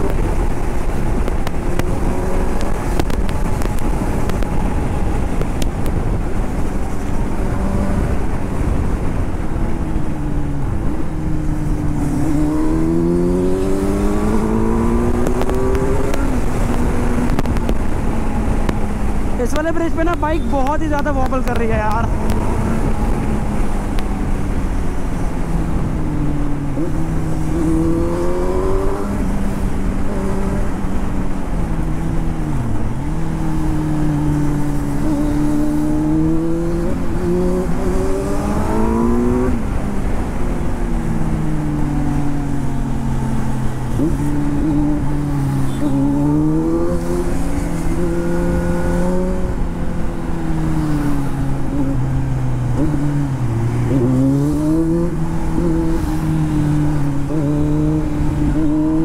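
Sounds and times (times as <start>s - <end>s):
wind noise: 0.0s - 59.0s
motorcycle engine revving: 10.5s - 40.2s, 41.0s - 59.0s.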